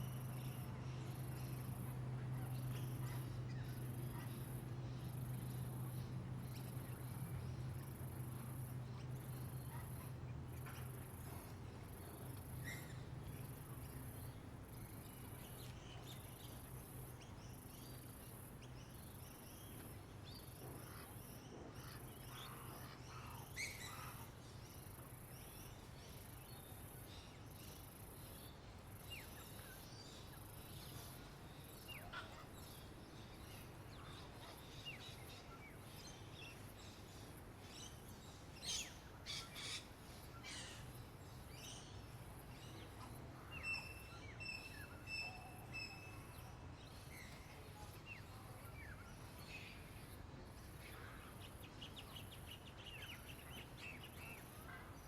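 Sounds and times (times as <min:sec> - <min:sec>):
songbirds chirping: 0:00.0 - 0:55.0
steady low hum: 0:00.0 - 0:55.0.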